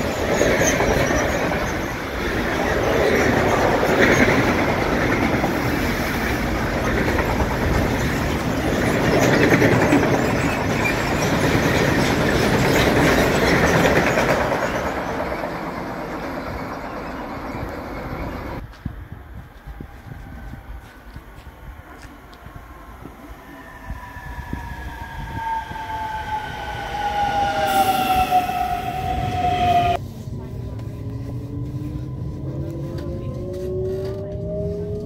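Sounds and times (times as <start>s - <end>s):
freight train wheels rattling on rails: 0.0s - 30.0s.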